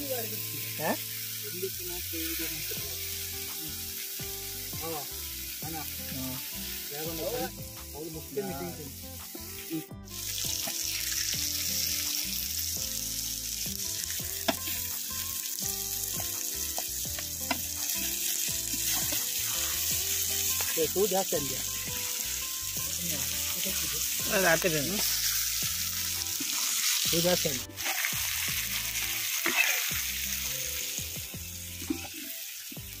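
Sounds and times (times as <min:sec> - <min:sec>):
fish frying in oil: 0:00.0 - 0:33.0.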